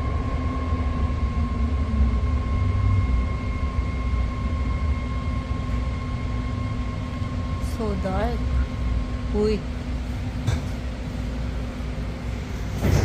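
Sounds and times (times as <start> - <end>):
train high-pitched whine: 0.0 - 13.0
train low rumble: 0.0 - 13.0.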